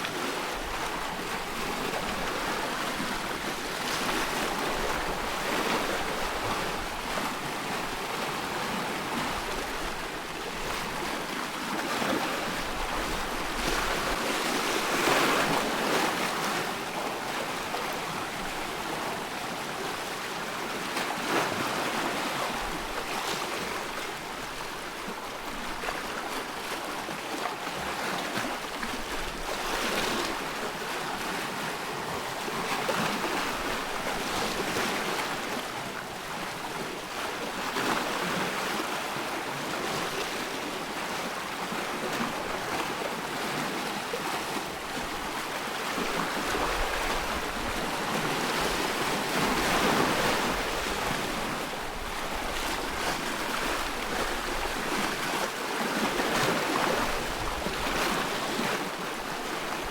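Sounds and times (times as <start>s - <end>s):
water lapping in small waves: 0.0s - 59.9s
wind: 0.0s - 59.9s.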